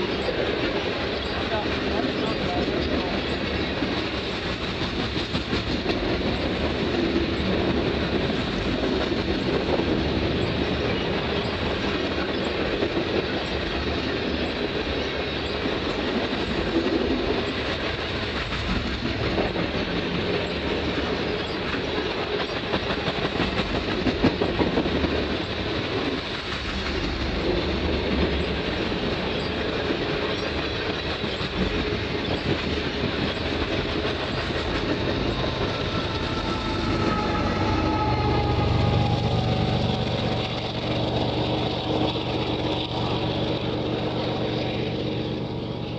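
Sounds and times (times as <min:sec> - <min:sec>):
train rolling noise: 0:00.0 - 0:45.9
train wheels clickety-clack: 0:00.0 - 0:45.9.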